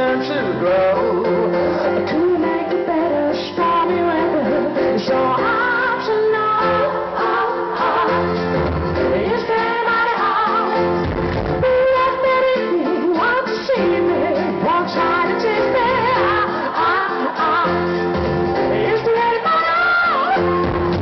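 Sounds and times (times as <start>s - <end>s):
live pop band with singing: 0.0s - 21.0s.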